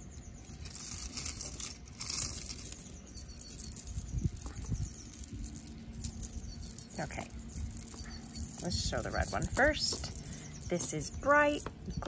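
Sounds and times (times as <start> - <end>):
beaded necklaces rustling: 0.0 - 11.9.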